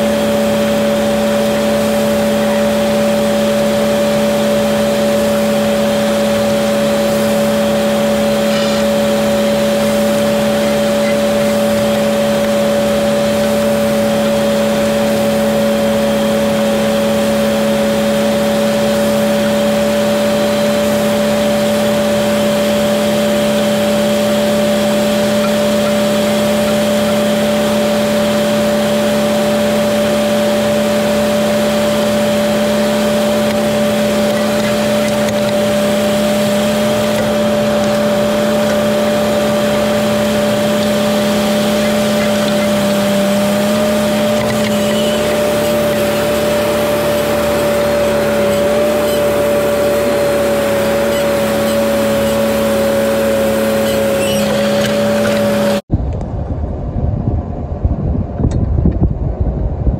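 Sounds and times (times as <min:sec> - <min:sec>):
tractor engine droning: 0:00.0 - 0:56.5.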